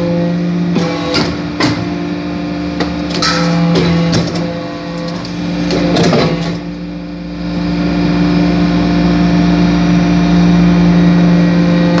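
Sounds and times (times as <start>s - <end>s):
hydraulic press hum: 0.0s - 12.0s.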